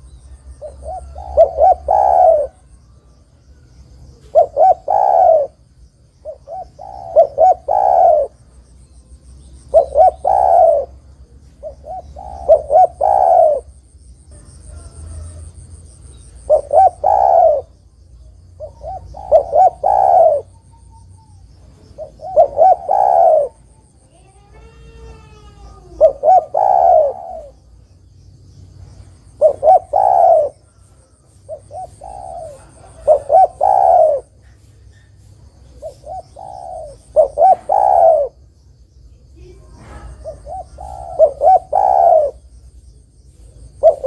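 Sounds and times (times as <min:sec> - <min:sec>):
dove cooing: 0:00.0 - 0:05.6, 0:06.2 - 0:08.5, 0:09.6 - 0:17.9, 0:18.5 - 0:27.8, 0:29.2 - 0:38.4, 0:39.3 - 0:42.5, 0:43.4 - 0:44.0.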